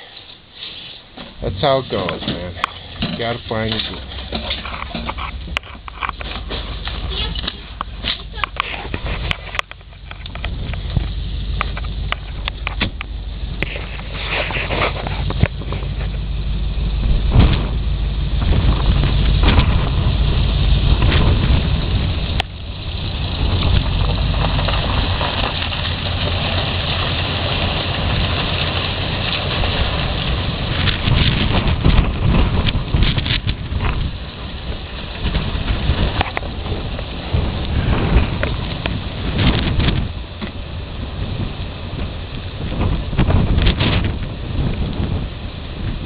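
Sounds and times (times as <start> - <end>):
strong wind buffeting microphone: 1.4 - 46.0.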